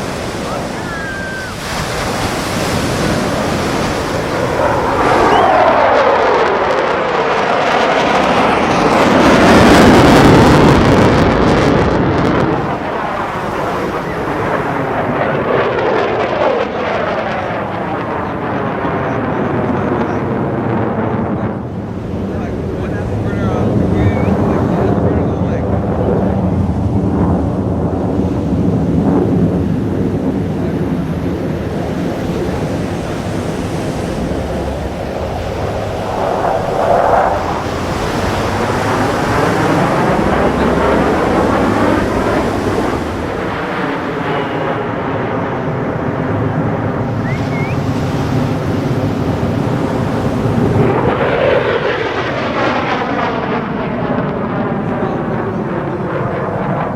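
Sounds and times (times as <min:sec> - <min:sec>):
jet fighter flying past: 0:00.0 - 0:56.9.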